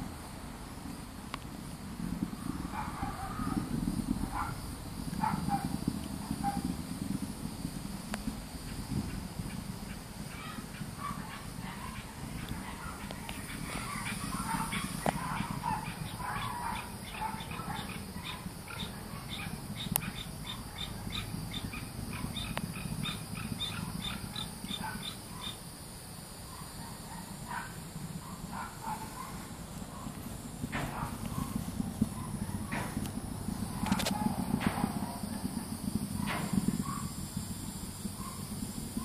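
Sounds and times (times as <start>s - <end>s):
cicada drone: 0.0s - 39.0s
distant rocket launch rumble: 0.0s - 39.0s
rapid chirps: 2.2s - 39.0s
birds calling: 2.4s - 6.7s, 8.6s - 25.7s, 26.4s - 37.2s, 38.0s - 39.0s
dogs calling: 2.6s - 4.6s, 5.2s - 6.8s, 8.7s - 25.6s, 26.5s - 33.0s, 33.6s - 37.2s, 38.1s - 39.0s.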